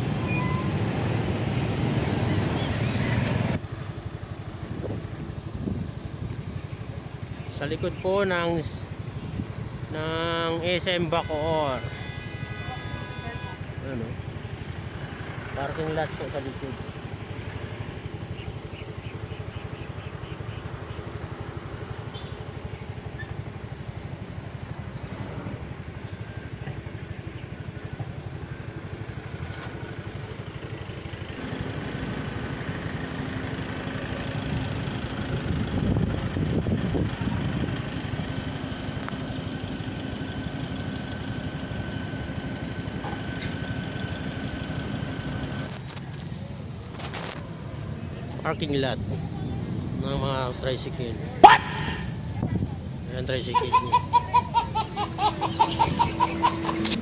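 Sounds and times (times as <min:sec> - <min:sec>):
road and traffic noise: 0:00.0 - 0:57.0
motorcycle engine running: 0:01.2 - 0:11.8, 0:12.6 - 0:50.4.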